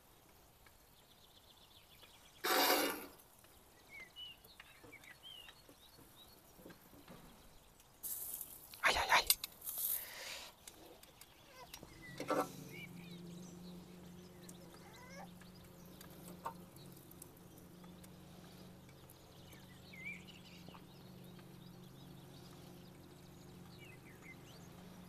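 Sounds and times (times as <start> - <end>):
birds chirping: 0.0 - 25.0
steady low hum: 3.3 - 25.0.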